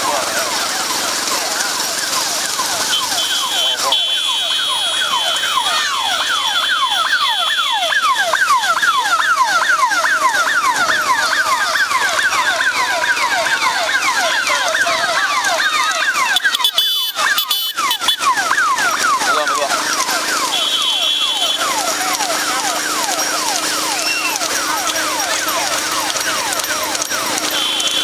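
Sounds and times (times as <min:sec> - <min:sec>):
electronic sirens whooping: 0:00.0 - 0:28.0.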